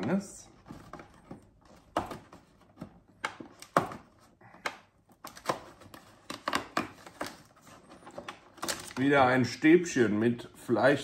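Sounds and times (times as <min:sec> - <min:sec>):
cardboard clicks taps and rustles: 0:00.0 - 0:09.1.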